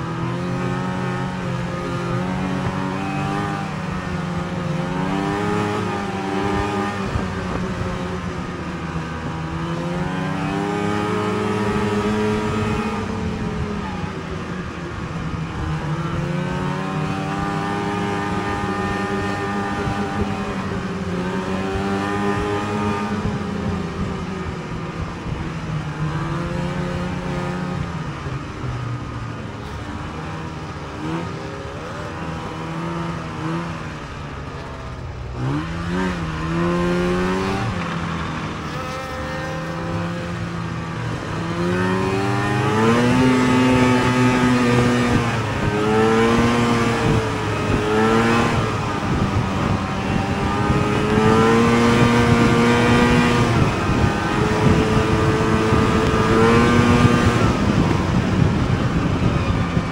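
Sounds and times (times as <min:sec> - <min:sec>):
snowmobile engine revving: 0:00.0 - 0:24.6, 0:25.2 - 0:59.9
steady rushing noise: 0:00.0 - 0:59.9.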